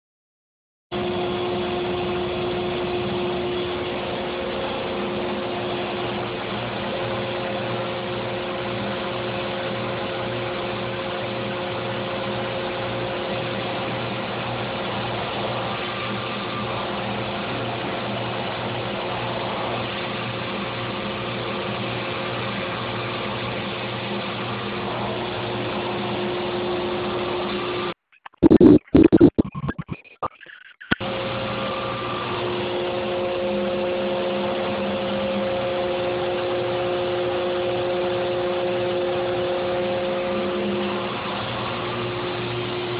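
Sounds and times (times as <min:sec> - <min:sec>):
router machine drone: 0:01.0 - 0:23.5, 0:28.4 - 0:42.9.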